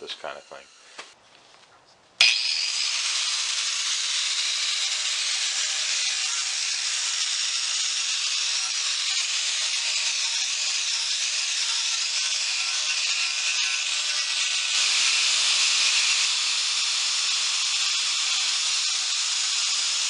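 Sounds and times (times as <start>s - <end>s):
wire brush grinder on metal: 0.0s - 1.0s, 2.2s - 20.0s.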